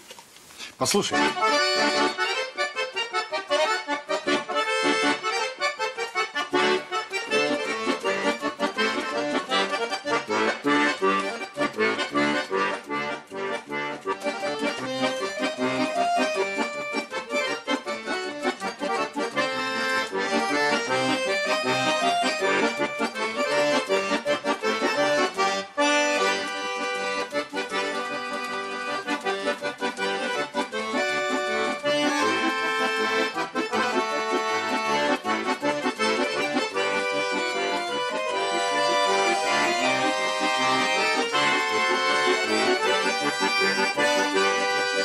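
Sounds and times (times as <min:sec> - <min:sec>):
accordion duo playing: 0:00.8 - 0:45.0.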